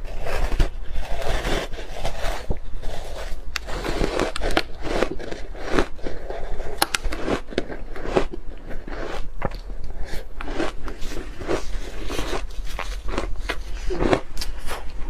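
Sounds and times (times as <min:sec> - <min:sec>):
ice crunching between teeth: 0:00.2 - 0:15.0.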